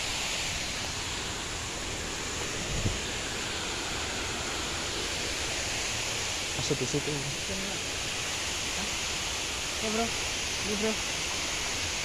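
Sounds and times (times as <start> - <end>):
water rushing along channel: 0.0 - 12.0.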